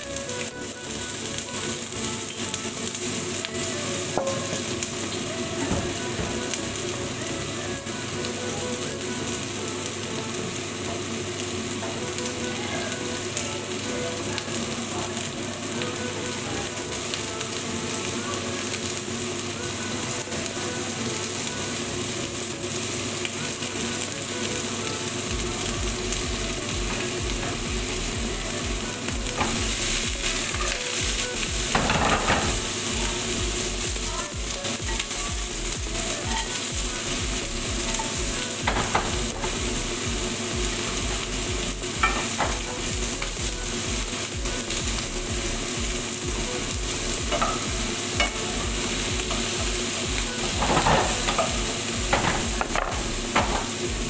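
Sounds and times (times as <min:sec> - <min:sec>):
zucchini sizzling in a pan: 0:00.0 - 0:54.0.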